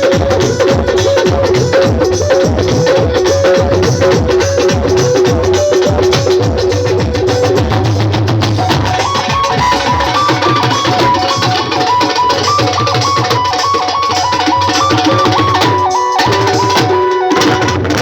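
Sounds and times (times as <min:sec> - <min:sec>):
drum percussion: 0:00.0 - 0:18.0
high stepping melody: 0:00.0 - 0:18.0.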